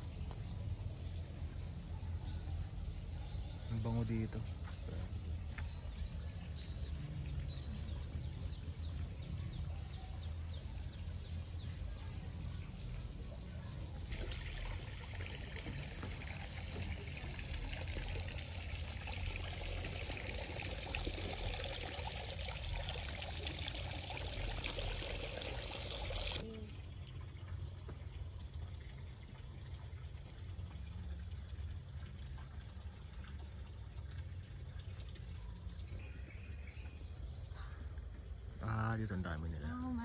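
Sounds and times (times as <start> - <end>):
water trickling and splashing: 0.0 - 36.1.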